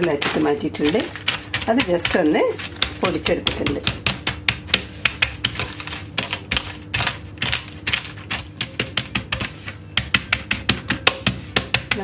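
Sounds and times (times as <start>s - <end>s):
rolling pin crushing praline: 0.0s - 12.0s.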